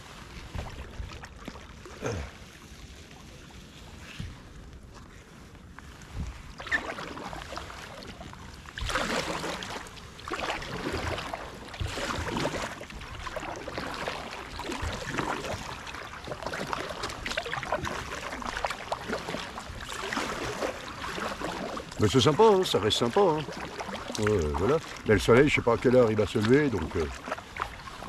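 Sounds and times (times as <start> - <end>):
kayak paddle splashing in water: 0.0 - 4.4, 6.1 - 28.0.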